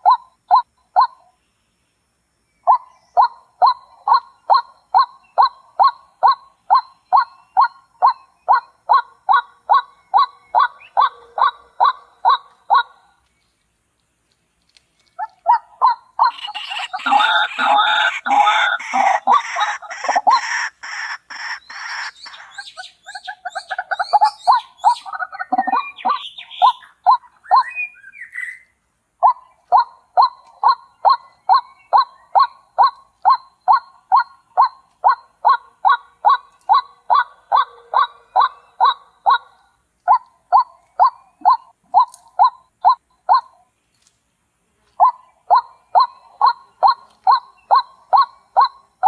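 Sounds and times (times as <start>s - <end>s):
bird calling: 2.6s - 13.6s, 14.6s - 43.7s, 44.9s - 49.0s.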